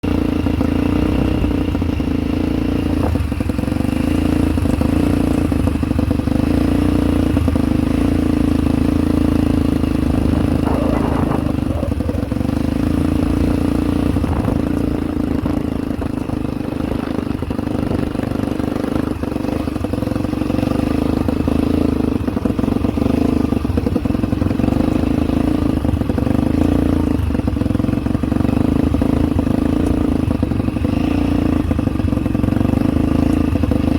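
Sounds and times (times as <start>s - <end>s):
atv engine running: 0.0s - 33.9s.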